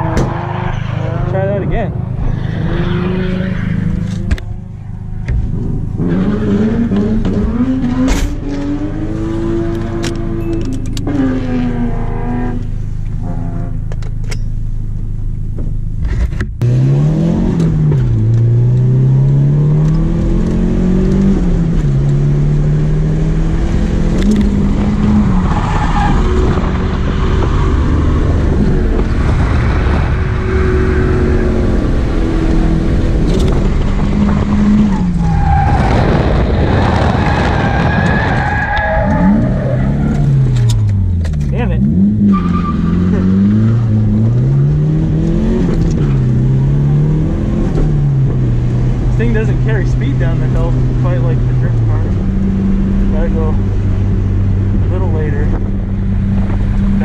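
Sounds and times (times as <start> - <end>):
car engine revving: 0.0 - 14.4, 15.2 - 57.0.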